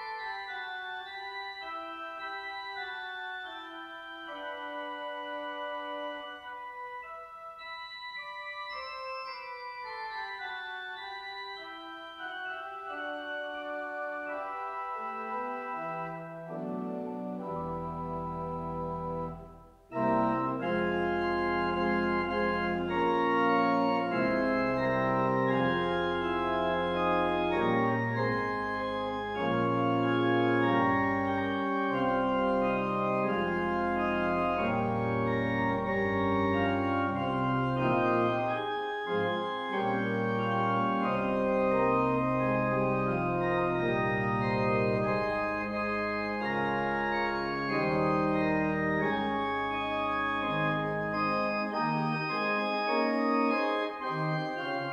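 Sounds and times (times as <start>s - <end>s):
pipe organ chords: 0.0s - 54.9s.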